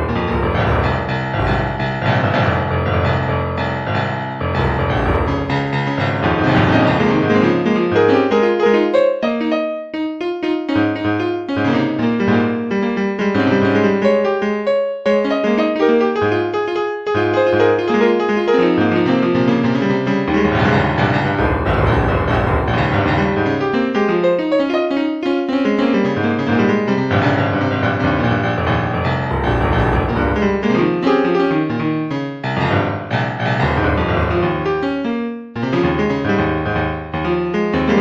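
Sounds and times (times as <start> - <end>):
solo piano music: 0.0 - 38.0.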